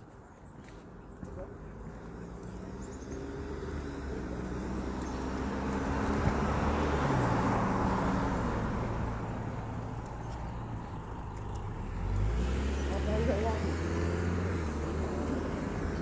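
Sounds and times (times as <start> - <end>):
vehicle passing by: 1.4 - 16.0.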